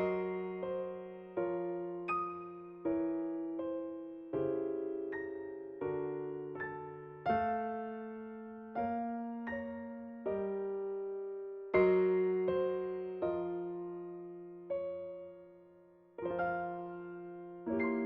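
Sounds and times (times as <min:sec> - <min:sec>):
gentle electric piano chords: 0:00.0 - 0:18.0.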